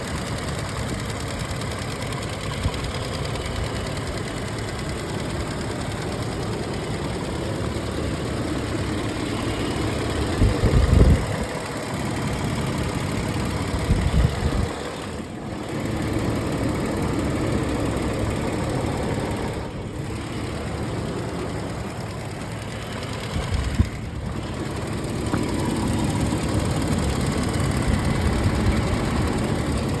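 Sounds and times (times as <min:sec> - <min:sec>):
engine running with ticking: 0:00.0 - 0:30.0.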